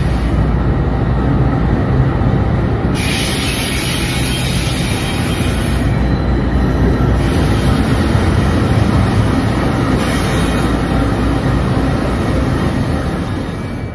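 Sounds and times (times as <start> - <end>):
locomotive engine rumble: 0.0 - 13.9
train wheels rolling on rails: 0.0 - 13.9.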